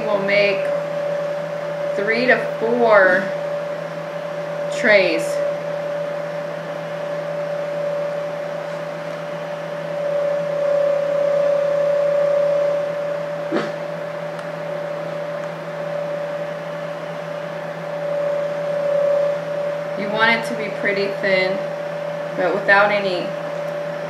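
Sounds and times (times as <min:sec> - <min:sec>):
steady hum with clear tone: 0:00.0 - 0:24.0.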